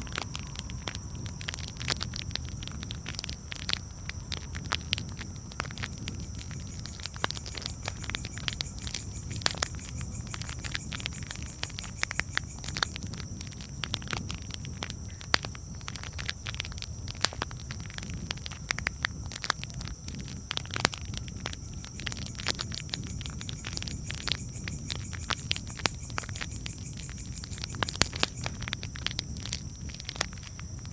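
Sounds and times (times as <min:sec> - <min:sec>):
low fire rumble: 0:00.0 - 0:30.9
campfire crackling and popping: 0:00.1 - 0:30.6.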